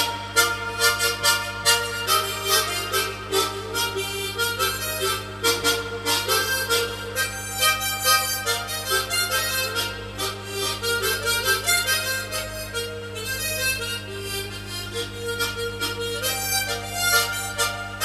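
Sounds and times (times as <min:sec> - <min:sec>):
harmonica playing: 0:00.0 - 0:18.0.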